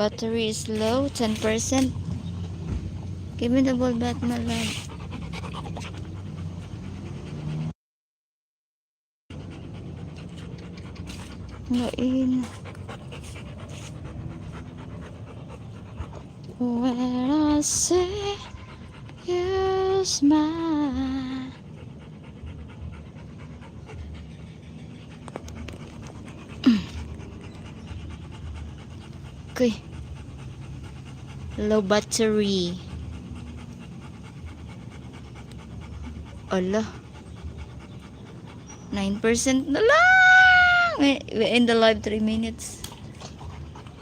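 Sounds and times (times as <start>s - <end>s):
dog panting: 0.0s - 7.7s, 9.3s - 39.9s, 41.2s - 44.0s.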